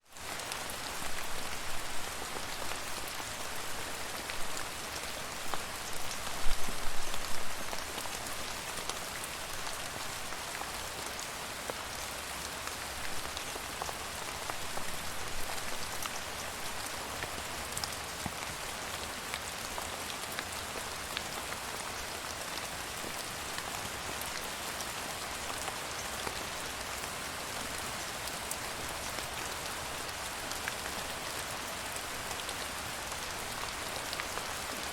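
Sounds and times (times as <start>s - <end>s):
steady rain hiss: 0.0s - 34.9s
raindrops ticking on a surface: 0.2s - 34.9s.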